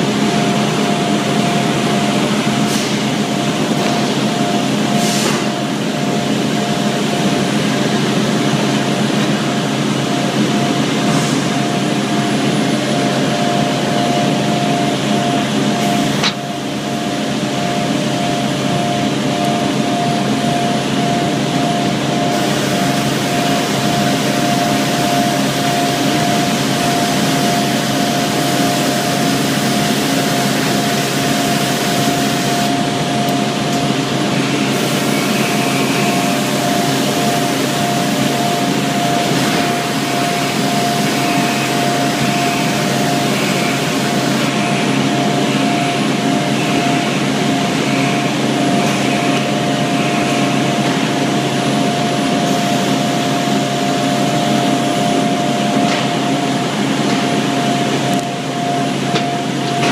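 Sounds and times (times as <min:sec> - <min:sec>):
machinery fans and motors running: 0:00.0 - 0:59.9
steady machine whine: 0:00.0 - 0:59.9.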